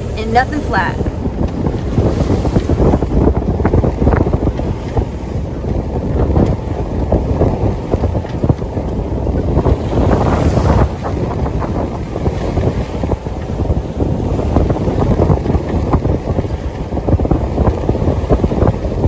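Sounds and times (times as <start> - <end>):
waves washing: 0.0 - 19.0
wind buffeting microphone: 0.0 - 19.0.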